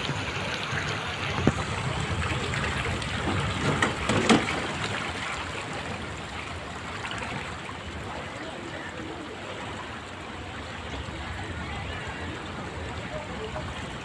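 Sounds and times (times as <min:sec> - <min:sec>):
seawater rushing through street: 0:00.0 - 0:14.0.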